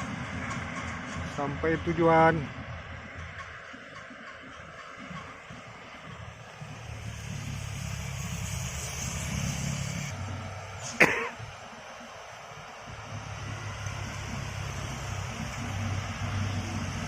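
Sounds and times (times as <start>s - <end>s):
diesel engine labouring uphill: 0.0s - 17.0s.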